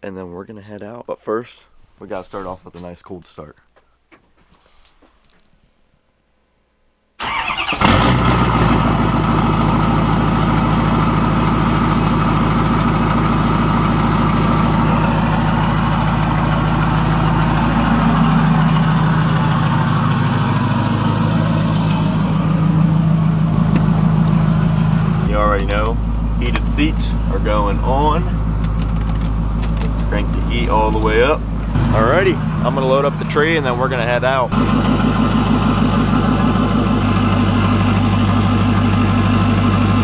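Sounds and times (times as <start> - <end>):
pickup engine starting and idling: 7.2 - 40.0.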